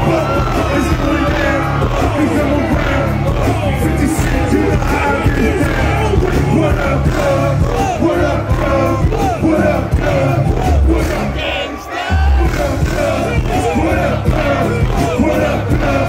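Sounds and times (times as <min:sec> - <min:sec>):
rapping over a bass beat: 0:00.0 - 0:16.0.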